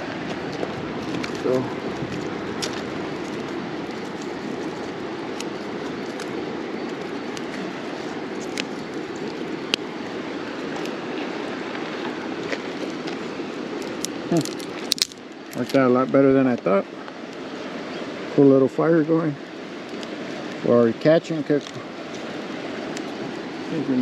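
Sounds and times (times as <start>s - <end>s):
campfire crackling: 0.0s - 24.0s
steady rushing fire noise: 0.0s - 24.0s.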